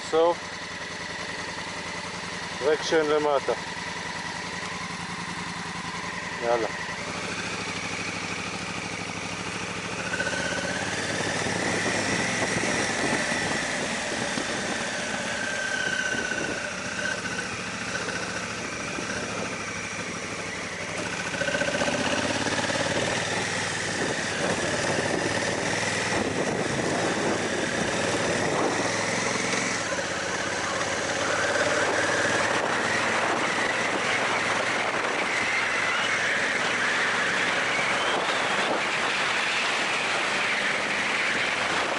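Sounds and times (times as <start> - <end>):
motorcycle engine revving: 0.0 - 41.9
rush of riding noise: 0.0 - 41.9.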